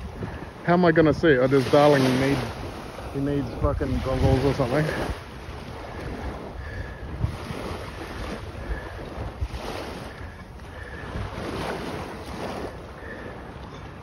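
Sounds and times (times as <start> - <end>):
water lapping: 0.0 - 14.0
wind buffeting microphone: 0.0 - 14.0.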